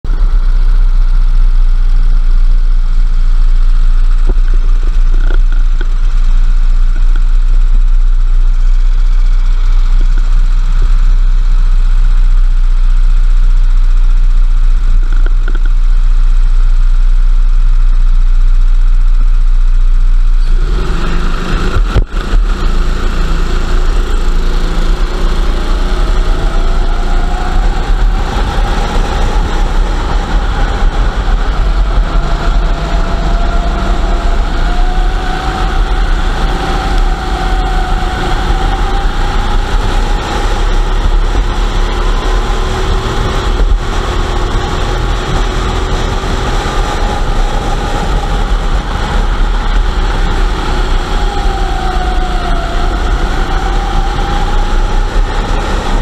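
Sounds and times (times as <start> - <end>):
kart engine idling and accelerating: 0.0 - 56.0.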